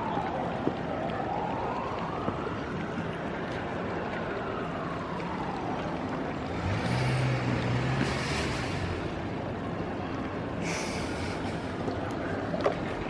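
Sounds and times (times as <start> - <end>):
distant traffic: 0.0 - 13.0.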